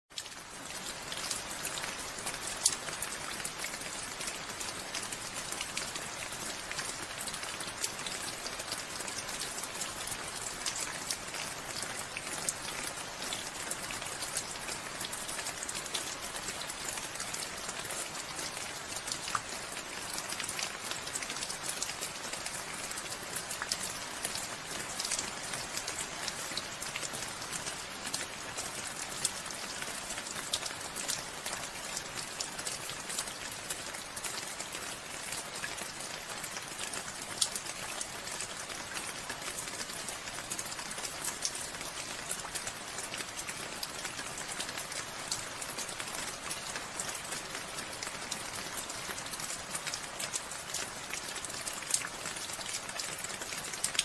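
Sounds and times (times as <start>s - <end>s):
raindrops ticking on surfaces: 0.1s - 54.0s
steady rain hiss: 0.2s - 54.0s.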